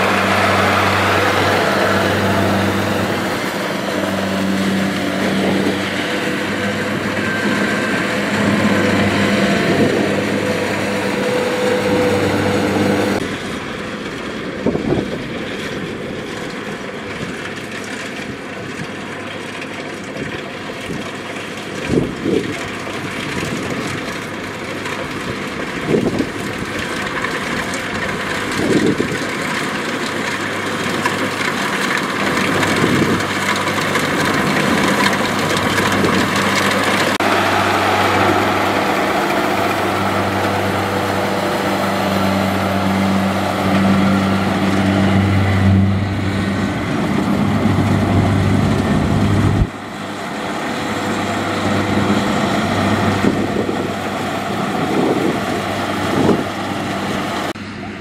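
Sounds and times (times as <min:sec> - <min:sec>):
combine harvester engine hum: 0:00.0 - 0:58.0.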